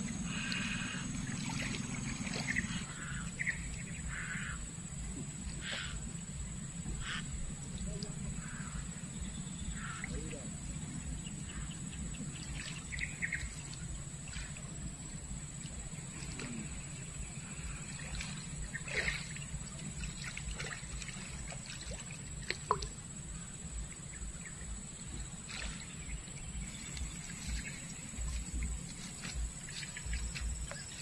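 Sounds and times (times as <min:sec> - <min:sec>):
water trickling and sloshing: 0:00.1 - 0:31.0.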